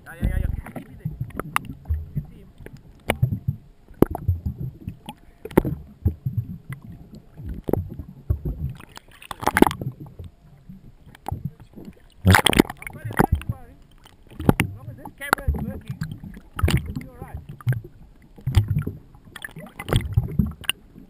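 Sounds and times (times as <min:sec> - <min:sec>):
water sloshing and gurgling: 0:00.0 - 0:21.0
water splashes: 0:00.0 - 0:21.0.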